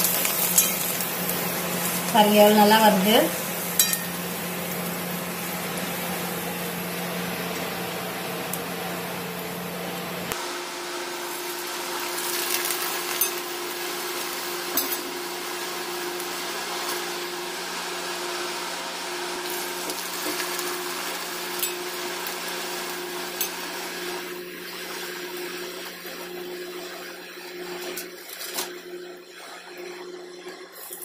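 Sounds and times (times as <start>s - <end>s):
frying in hot oil sizzling: 0.0s - 29.5s, 30.7s - 31.0s.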